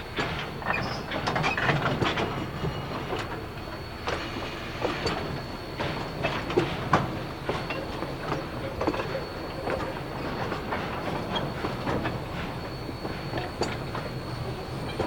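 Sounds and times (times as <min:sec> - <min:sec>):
faint high steady squeal: 0:00.0 - 0:15.0
train rolling on rails: 0:00.0 - 0:15.0
wheels and couplers clanking: 0:00.0 - 0:15.0.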